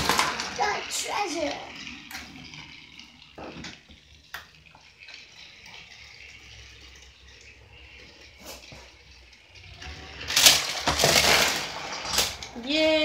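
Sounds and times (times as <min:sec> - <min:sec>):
toy train whirring: 0:00.0 - 0:13.0.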